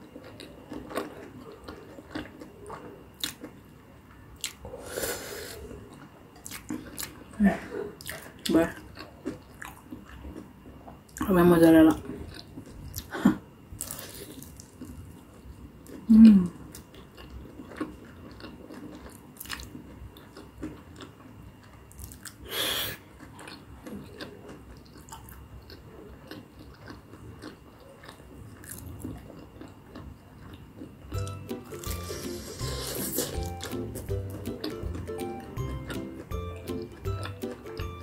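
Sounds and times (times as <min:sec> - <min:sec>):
chewing and crunching: 0:00.0 - 0:04.8, 0:05.6 - 0:11.3, 0:11.9 - 0:13.2, 0:13.8 - 0:22.4, 0:23.0 - 0:38.0.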